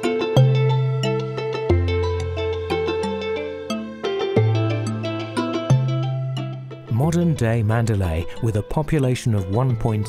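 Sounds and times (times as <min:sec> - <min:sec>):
plucked melody: 0:00.0 - 0:10.0.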